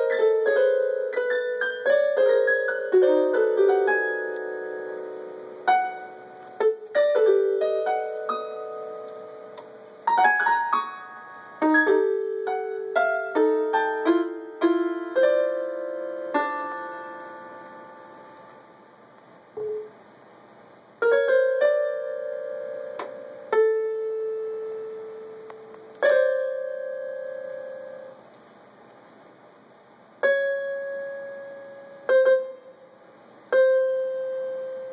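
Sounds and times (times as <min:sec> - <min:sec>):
electronic keyboard piano notes: 0:00.0 - 0:20.0, 0:21.0 - 0:28.2, 0:30.2 - 0:34.9.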